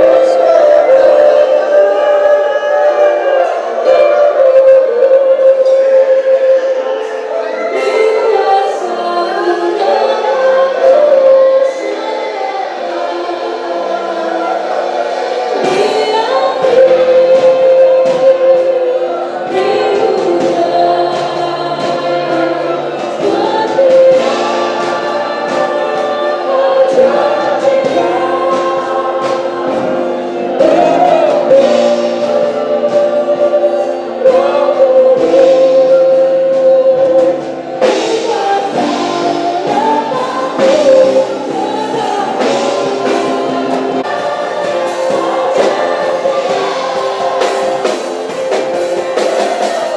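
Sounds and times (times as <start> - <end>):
group singing gospel song: 0.0 - 49.9
instrumental accompaniment: 0.0 - 49.9
percussion hits: 6.8 - 49.9.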